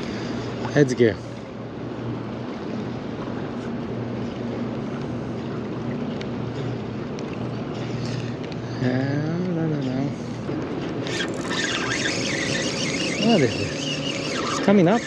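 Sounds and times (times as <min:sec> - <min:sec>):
low steady hum: 0:00.0 - 0:15.0
water noise: 0:00.0 - 0:15.0
wind: 0:00.0 - 0:15.0.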